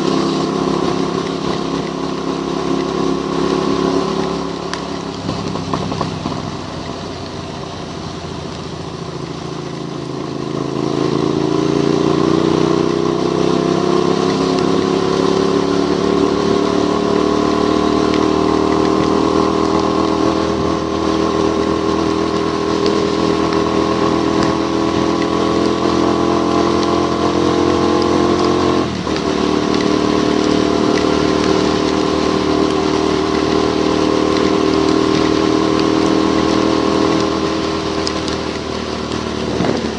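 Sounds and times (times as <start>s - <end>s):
motorcycle engine accelerating: 0.0s - 39.9s
wind and road spray hiss: 0.0s - 39.9s.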